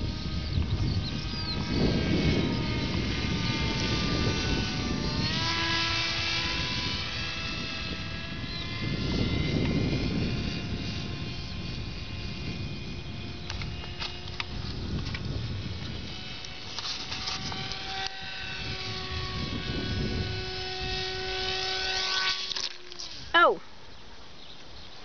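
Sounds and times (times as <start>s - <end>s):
model airplane motor whining: 0.0s - 24.8s.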